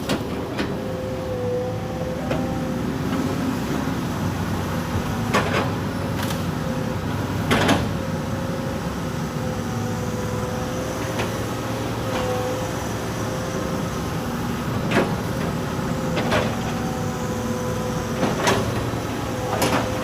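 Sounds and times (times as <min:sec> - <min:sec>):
excavator engine running: 0:00.0 - 0:20.0
hydraulic whine: 0:00.0 - 0:20.0.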